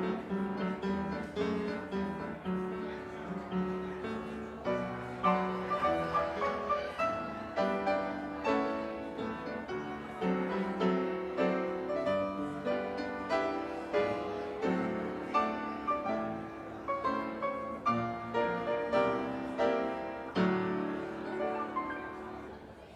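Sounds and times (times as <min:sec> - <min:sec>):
piano playing chords: 0:00.0 - 0:22.9.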